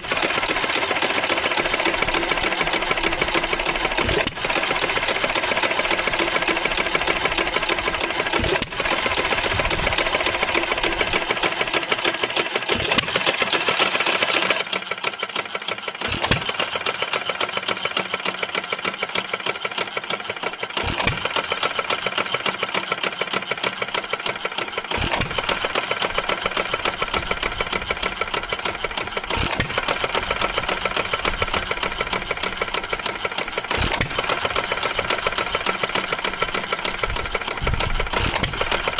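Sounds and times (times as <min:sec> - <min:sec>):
gas engine clatter: 0:00.0 - 0:38.9.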